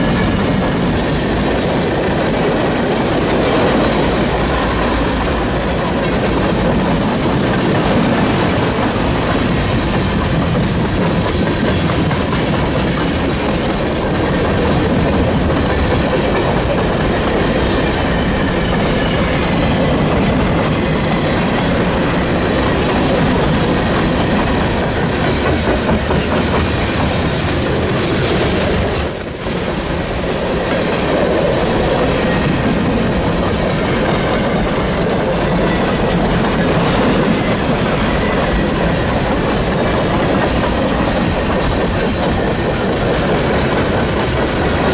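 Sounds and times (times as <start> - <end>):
freight train wheels on rail: 0.0 - 44.9.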